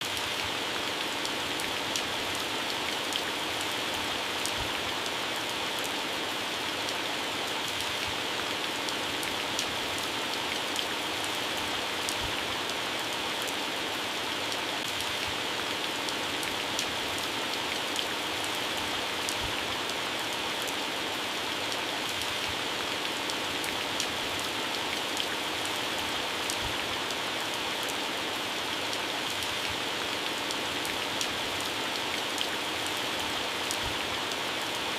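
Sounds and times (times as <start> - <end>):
heavy rain on plants: 0.0 - 34.9.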